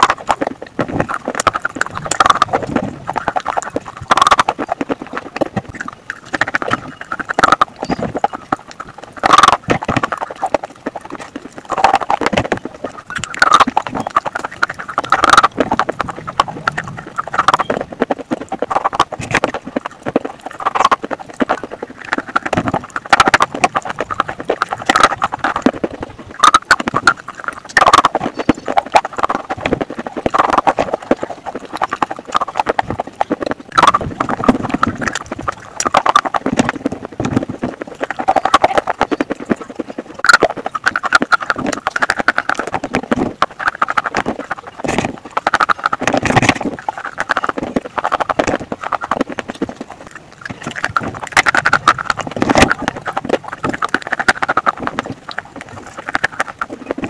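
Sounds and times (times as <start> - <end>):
pencils crunching when chewed: 0.0 - 57.0.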